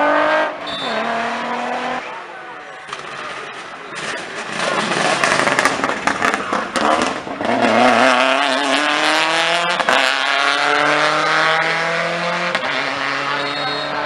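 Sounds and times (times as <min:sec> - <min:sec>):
rally car engine accelerating: 0:00.0 - 0:02.2, 0:03.9 - 0:14.0.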